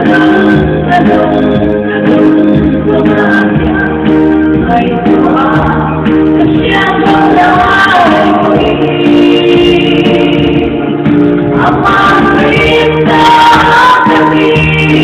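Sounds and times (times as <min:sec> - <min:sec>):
woman singing gospel: 0:00.0 - 0:10.8, 0:11.6 - 0:15.0
instrumental backing music: 0:00.0 - 0:15.0.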